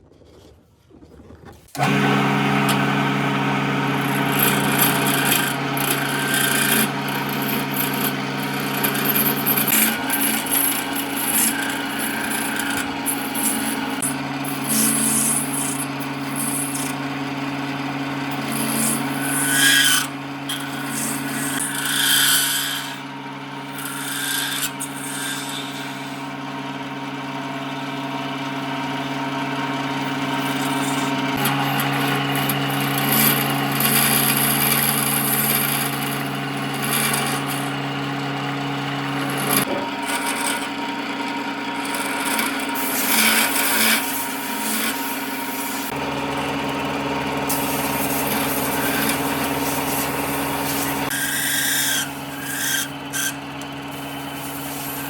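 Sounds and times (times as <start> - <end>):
power tool motor humming: 1.7 - 55.0
tool rasping into wood: 3.7 - 26.2, 30.2 - 37.9, 39.0 - 46.0, 47.4 - 55.0.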